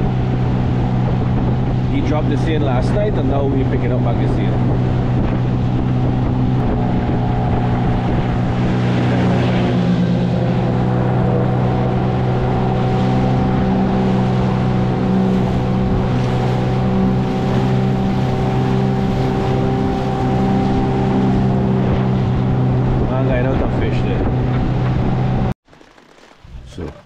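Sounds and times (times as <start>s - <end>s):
outboard motor droning: 0.0s - 27.0s.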